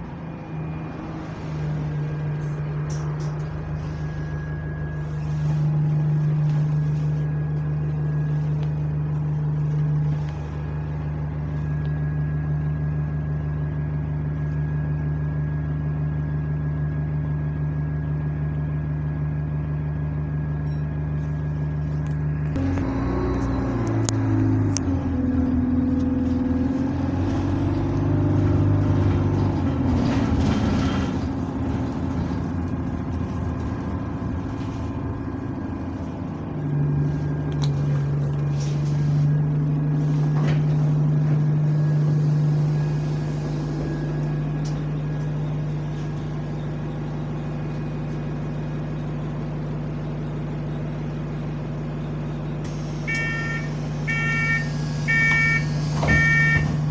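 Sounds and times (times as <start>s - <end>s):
bus diesel engine: 0.0s - 56.9s.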